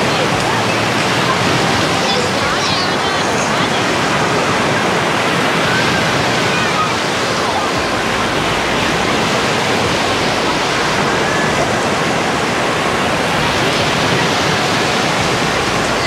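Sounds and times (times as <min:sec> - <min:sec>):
faint voices: 0:00.0 - 0:16.0
waves breaking on shore: 0:00.0 - 0:16.0.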